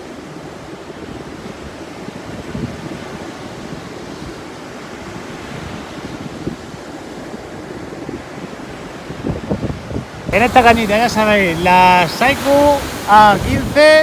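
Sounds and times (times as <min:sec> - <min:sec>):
sea surf washing on beach: 0:00.0 - 0:14.0
wind buffeting microphone: 0:00.0 - 0:14.0.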